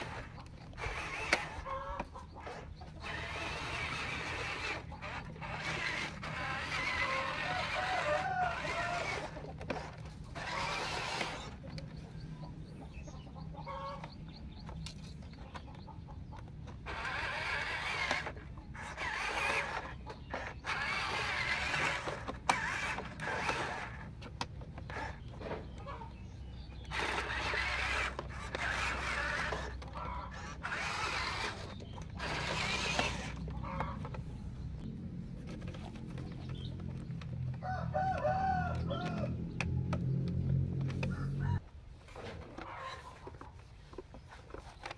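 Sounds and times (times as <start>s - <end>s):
chickens clucking: 0.0s - 44.9s
toy truck electric motor and gearbox: 0.0s - 44.9s.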